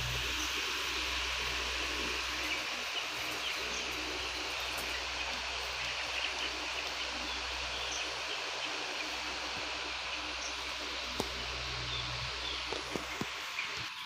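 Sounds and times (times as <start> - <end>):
low hum: 0.0 - 13.7
chicks peeping: 0.0 - 14.0.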